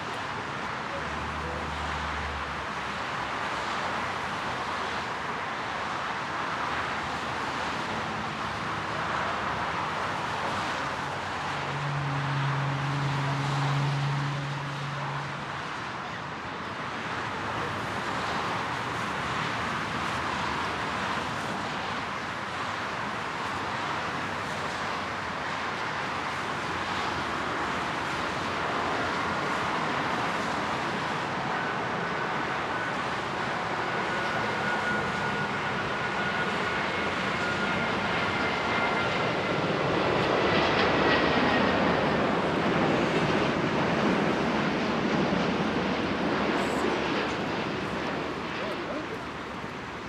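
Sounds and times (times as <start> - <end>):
distant jet engines rushing: 0.1 - 50.0.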